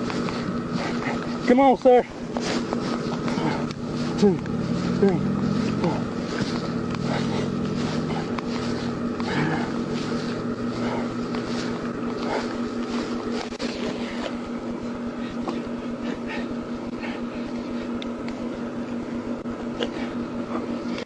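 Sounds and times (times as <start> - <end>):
low motor-like hum: 0.0 - 21.0
rhythmic rustling of chest compressions: 0.0 - 21.0.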